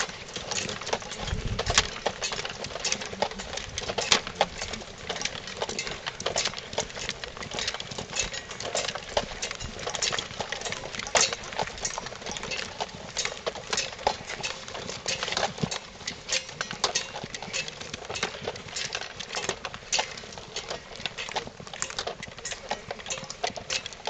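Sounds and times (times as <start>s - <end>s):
footsteps on sandy path: 0.0s - 24.0s.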